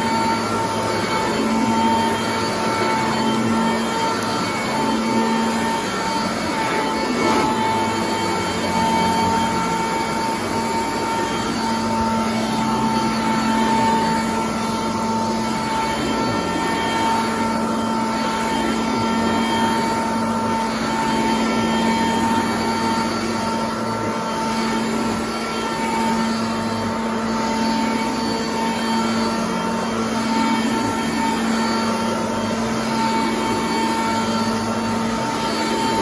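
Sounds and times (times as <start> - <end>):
upright vacuum running: 0.0 - 36.0.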